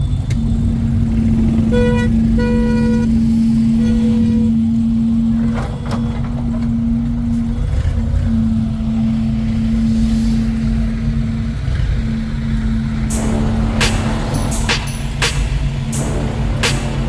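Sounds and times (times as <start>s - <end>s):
low engine rumble: 0.0s - 17.0s
steady droning hum: 0.0s - 17.0s.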